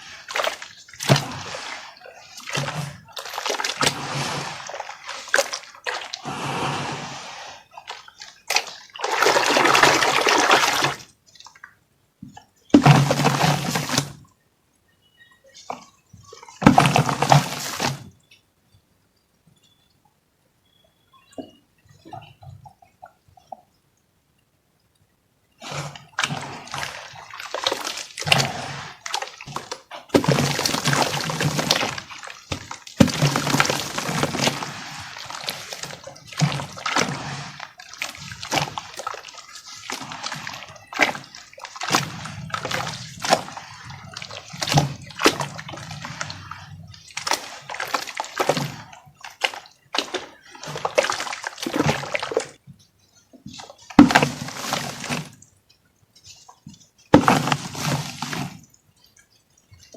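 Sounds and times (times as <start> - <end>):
water splashing and sloshing: 0.0 - 14.4, 15.1 - 18.5, 21.1 - 24.2, 25.5 - 59.9.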